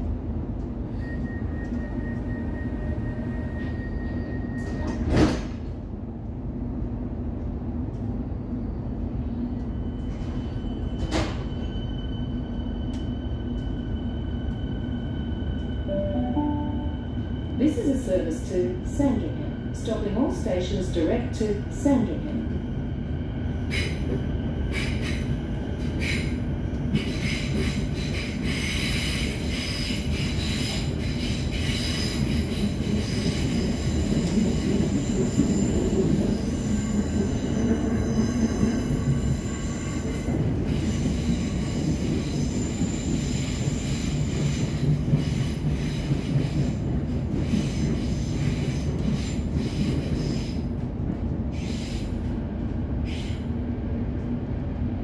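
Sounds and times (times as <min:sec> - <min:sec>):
train wheels rumbling on track: 0:00.0 - 0:16.0, 0:16.8 - 0:55.0.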